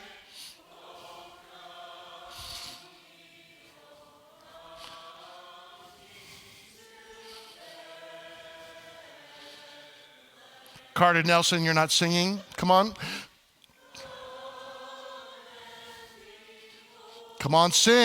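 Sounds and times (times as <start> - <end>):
congregation singing: 0.0 - 18.0.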